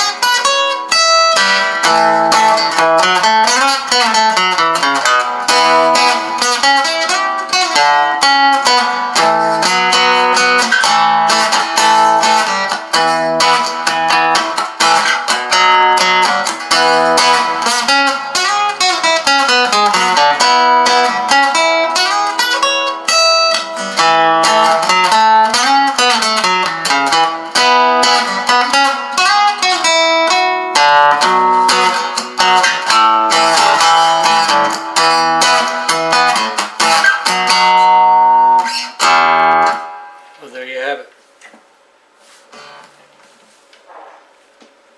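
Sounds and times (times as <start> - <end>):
acoustic guitar playing: 0.0 - 41.0, 42.2 - 43.0.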